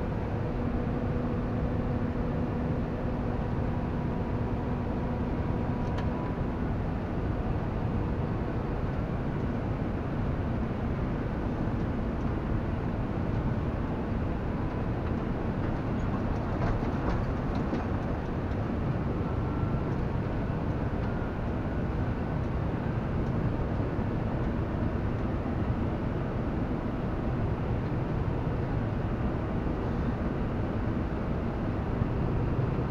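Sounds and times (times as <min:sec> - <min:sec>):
tractor running under load: 0:00.0 - 0:32.9.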